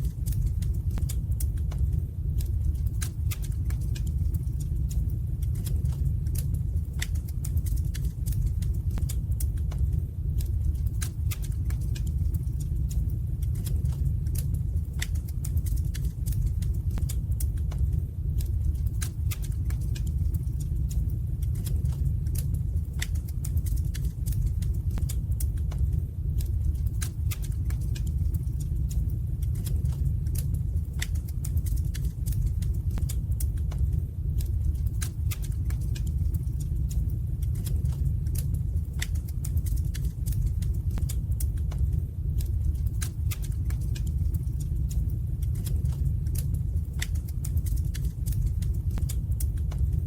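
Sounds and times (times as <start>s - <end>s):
low rumble: 0.0s - 50.0s
wood fire crackling and popping: 0.0s - 50.0s.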